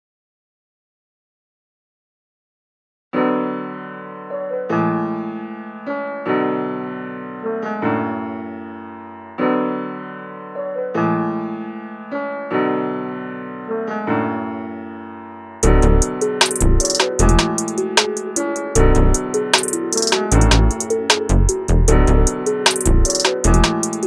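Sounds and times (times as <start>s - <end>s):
slow piano chords: 3.2s - 24.0s.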